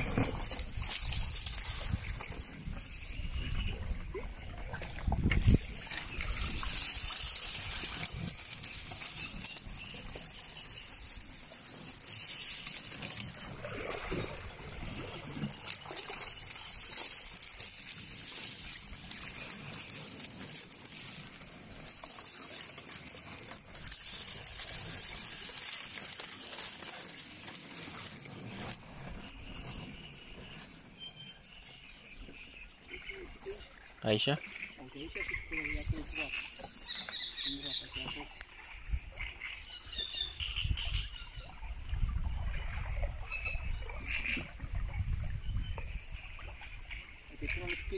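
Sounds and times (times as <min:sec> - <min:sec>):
reed stems rustling: 0:00.0 - 0:47.9
water sloshing and trickling: 0:00.0 - 0:47.9.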